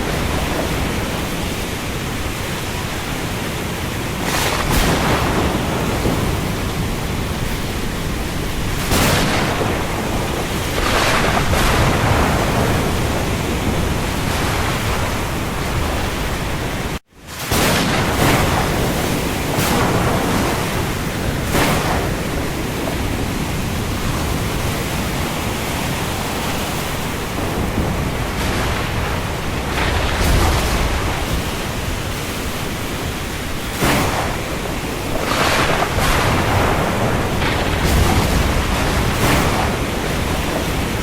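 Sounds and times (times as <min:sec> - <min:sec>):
rain falling on sea: 0:00.0 - 0:41.0
surf: 0:00.0 - 0:41.0.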